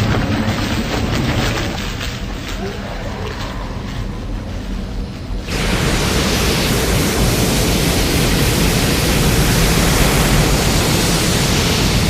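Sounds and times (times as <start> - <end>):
loud steady rushing noise: 1.9 - 12.0.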